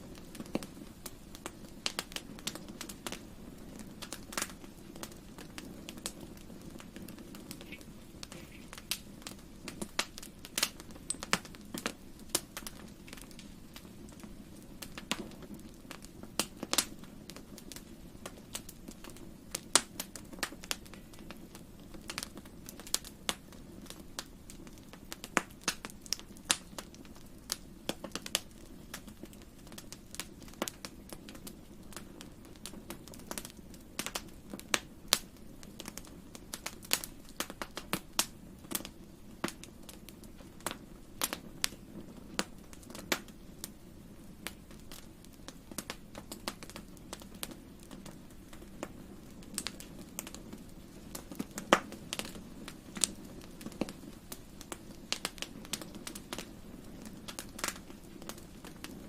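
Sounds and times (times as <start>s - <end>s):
low steady background noise: 0.0s - 59.0s
wood fire crackling: 0.0s - 59.0s.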